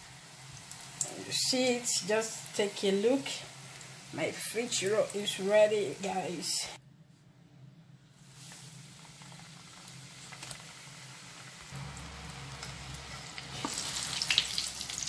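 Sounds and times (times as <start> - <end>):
food deep-frying in oil: 0.0 - 6.6, 8.2 - 15.0.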